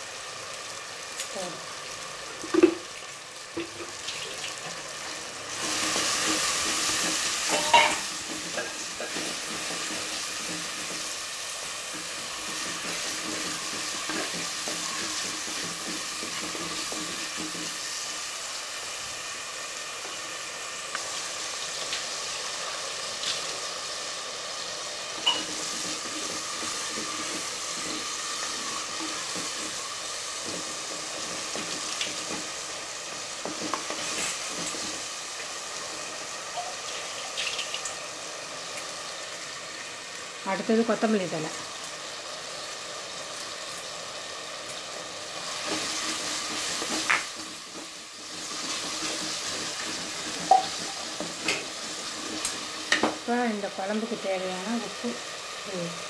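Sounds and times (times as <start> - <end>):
vegetables sizzling in a pot: 0.0 - 56.0.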